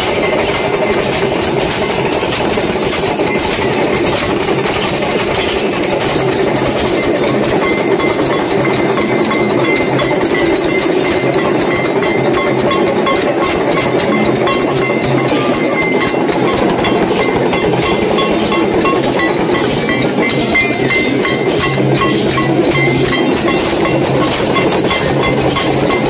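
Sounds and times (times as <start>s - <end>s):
brass hand bell ringing: 0.0s - 26.0s
rapid percussion clatter: 0.0s - 26.0s.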